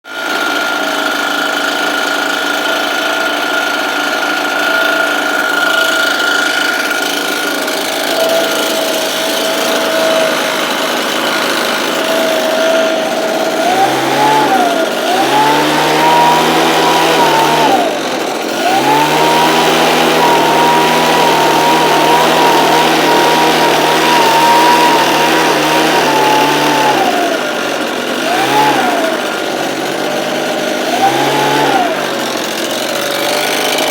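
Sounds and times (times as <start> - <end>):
engine-driven blower revving: 0.0 - 33.9.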